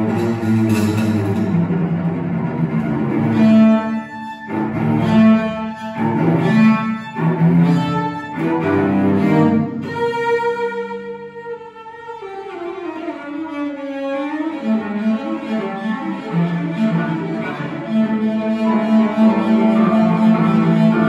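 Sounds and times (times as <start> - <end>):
bowed cello: 0.0 - 21.0.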